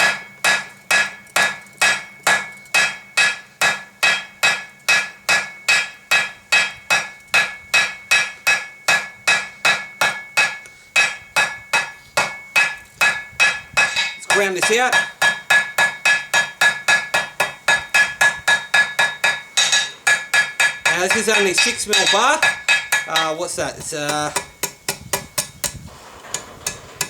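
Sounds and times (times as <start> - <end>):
hammer striking metal on anvil: 0.0 - 27.0.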